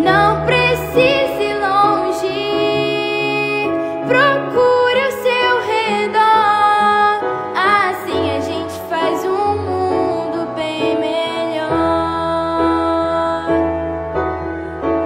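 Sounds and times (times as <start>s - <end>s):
woman singing with vibrato: 0.0s - 13.7s.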